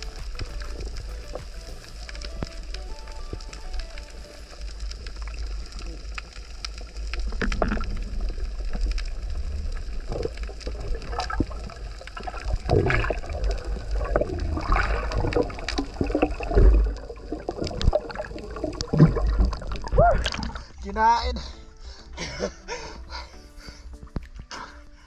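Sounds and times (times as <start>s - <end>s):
underwater rumble of moving water: 0.0s - 20.9s
water gurgles: 0.0s - 21.1s.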